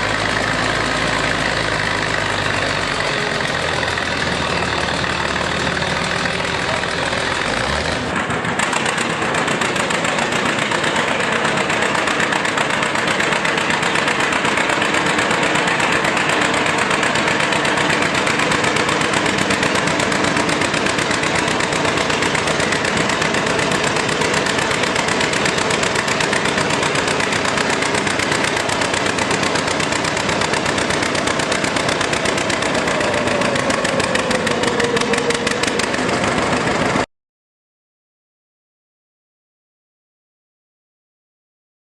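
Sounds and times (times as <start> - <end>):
tractor engine running: 0.0 - 37.1.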